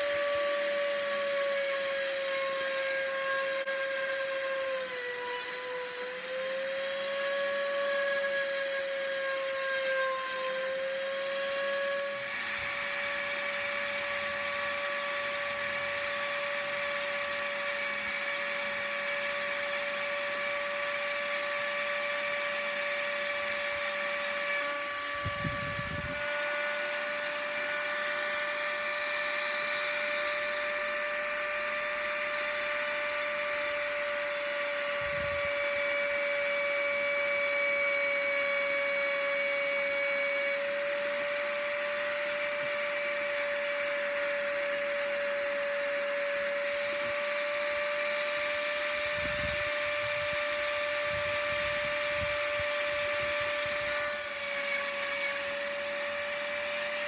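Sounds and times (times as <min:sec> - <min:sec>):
rotary tool motor whining: 0:00.0 - 0:57.0.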